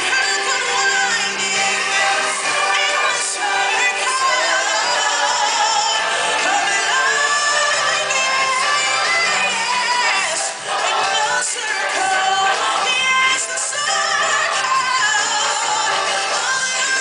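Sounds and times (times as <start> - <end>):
singers with live band: 0.0 - 17.0.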